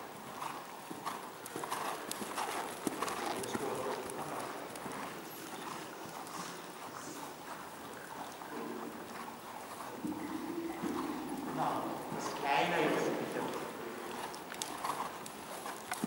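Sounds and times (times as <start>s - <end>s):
horse hoofbeats on sand: 0.4s - 16.0s.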